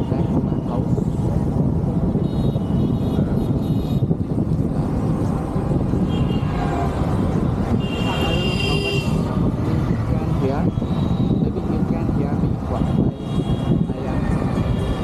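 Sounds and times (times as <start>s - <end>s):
wind and motorcycle road noise: 0.0s - 15.0s.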